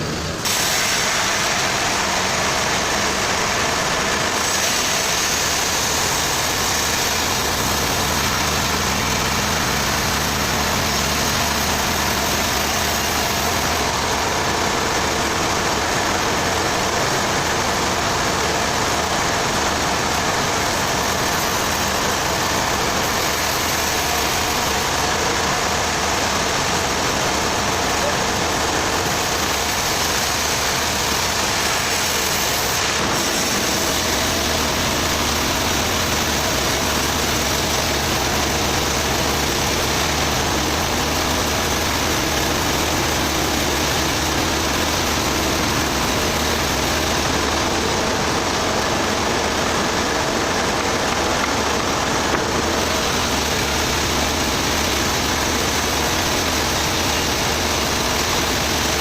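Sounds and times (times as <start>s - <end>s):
engine running steadily: 0.0s - 59.0s
machinery hiss: 0.0s - 59.0s.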